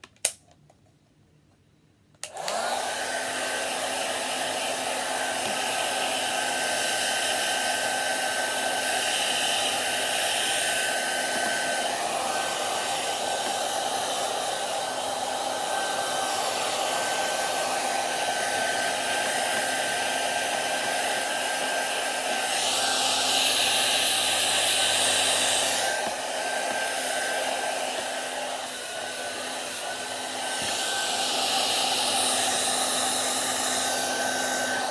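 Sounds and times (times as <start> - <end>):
hair dryer running: 2.2 - 34.9
hair dryer switch: 2.2 - 34.9.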